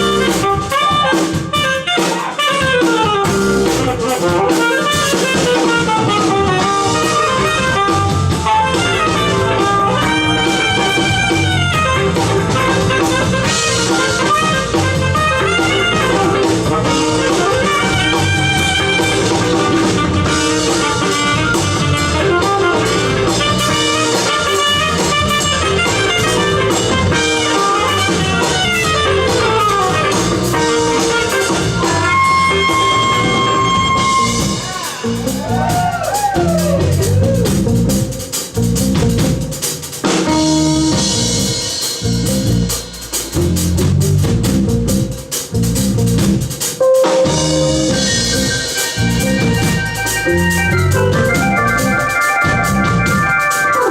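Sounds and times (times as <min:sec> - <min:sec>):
drum kit: 0:00.0 - 0:53.9
electric guitar: 0:00.0 - 0:53.9
saxophone lead: 0:00.0 - 0:53.9.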